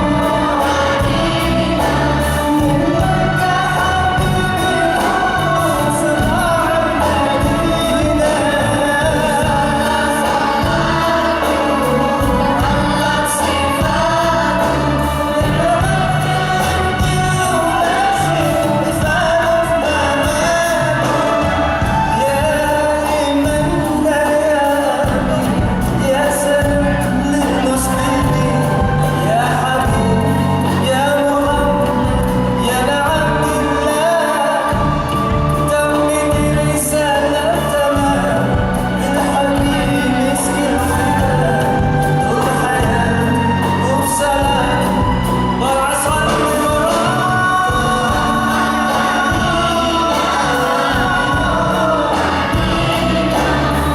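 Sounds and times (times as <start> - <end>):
bass line: 0.0 - 53.9
instrumental accompaniment: 0.0 - 53.9
percussion beat: 0.0 - 53.9
person singing: 0.0 - 53.9.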